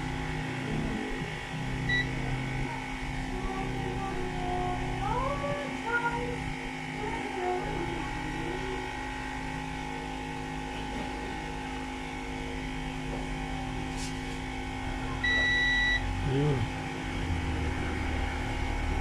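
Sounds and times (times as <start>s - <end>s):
electrical hum: 0.0s - 19.0s
low background rumble: 0.0s - 19.0s.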